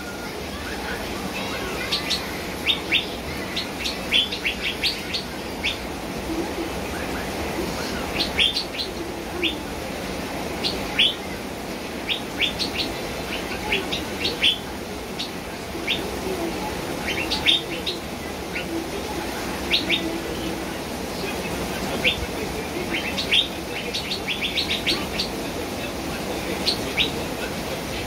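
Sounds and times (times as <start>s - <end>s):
songbird chirping: 0.0s - 28.0s
steady background hiss: 0.0s - 28.0s.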